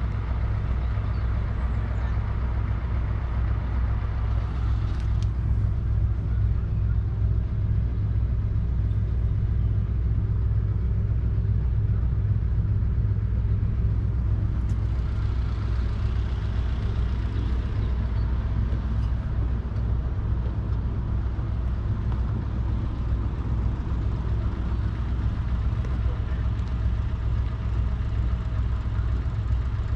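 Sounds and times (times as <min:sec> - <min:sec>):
tractor engine idling: 0:00.0 - 0:29.9.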